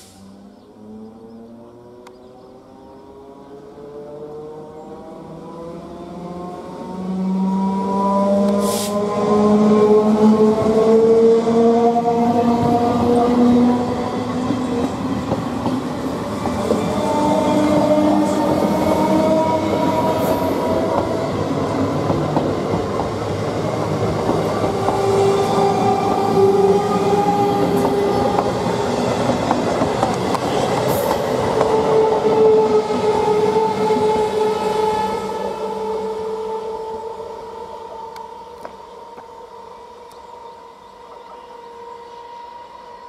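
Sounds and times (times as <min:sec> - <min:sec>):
train rumbling past: 0:00.0 - 0:43.0.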